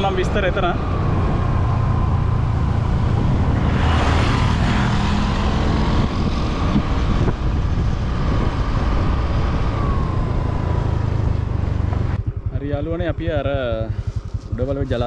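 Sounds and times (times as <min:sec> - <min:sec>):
motorcycle engine and wind rumble: 0:00.0 - 0:15.0.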